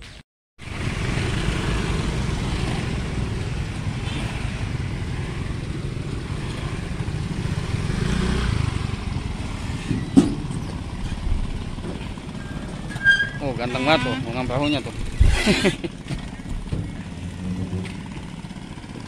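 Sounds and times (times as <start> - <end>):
motor scooter engines rumbling: 0.6 - 19.0.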